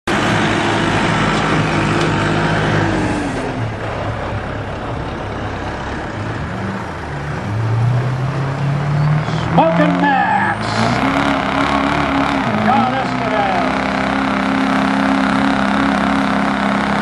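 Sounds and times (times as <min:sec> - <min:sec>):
pulling vehicle engine running hard: 0:00.1 - 0:17.0.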